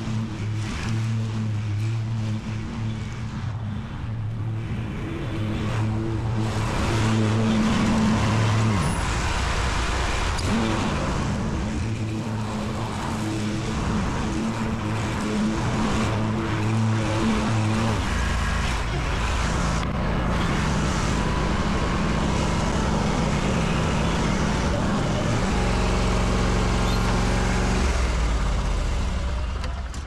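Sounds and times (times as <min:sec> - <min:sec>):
blade cutting grass: 0:00.0 - 0:29.2
lawn mower engine running: 0:00.0 - 0:30.0.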